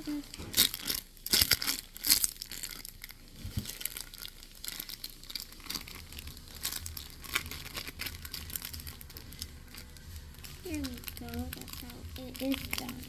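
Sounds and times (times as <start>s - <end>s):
faint low hum: 0.0s - 13.0s
paper and plastic crinkling: 0.0s - 13.0s.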